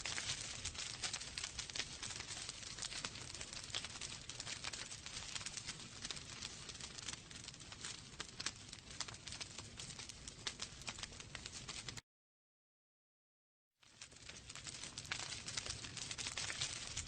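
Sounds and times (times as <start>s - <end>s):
fire soft hiss: 0.0s - 12.0s, 13.8s - 17.0s
wood fire crackling and popping: 0.0s - 12.0s, 13.8s - 17.0s.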